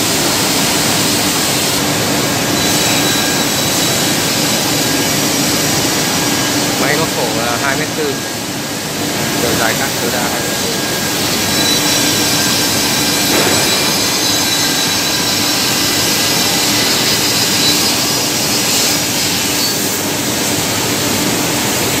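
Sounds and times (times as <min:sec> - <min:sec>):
milling machine whirring: 0:00.0 - 0:22.0.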